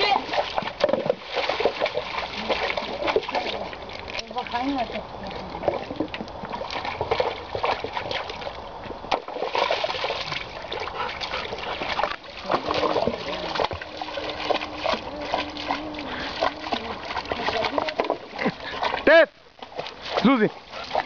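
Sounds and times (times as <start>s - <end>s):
dog splashing in stream: 0.0s - 21.0s.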